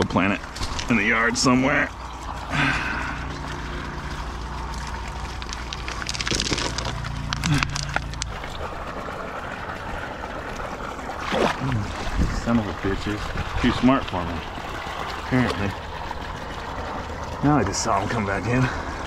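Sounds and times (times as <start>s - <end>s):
steady low hum: 0.0s - 19.0s
water sloshing and trickling: 0.0s - 19.0s.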